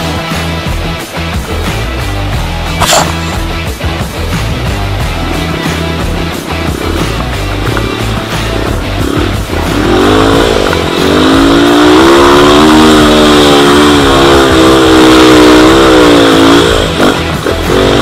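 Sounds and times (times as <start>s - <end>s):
dirt bike engine revving: 2.8s - 3.6s, 4.3s - 18.0s.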